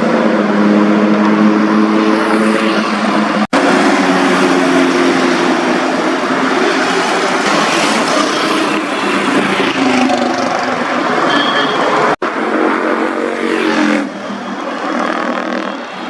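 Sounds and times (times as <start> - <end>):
loud superbike engines: 0.0 - 16.0.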